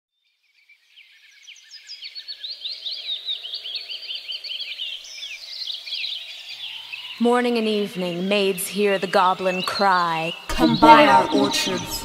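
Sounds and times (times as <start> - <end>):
birds chirping: 0.3 - 12.0.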